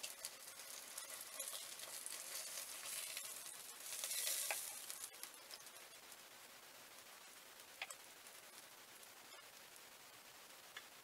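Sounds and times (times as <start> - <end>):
food sizzling in oil: 0.0 - 11.0
small crackles: 0.0 - 11.0.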